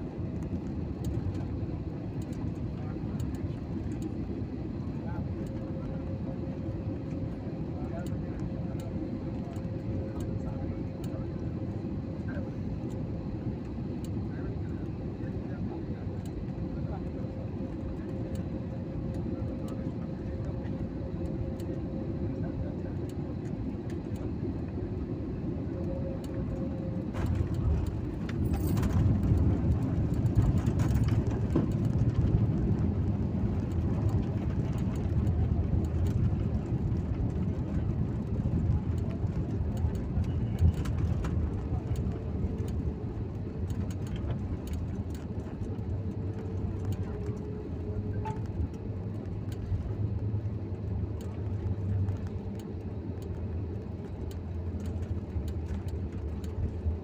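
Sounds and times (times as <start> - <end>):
airliner cabin rumble on landing: 0.0 - 57.0.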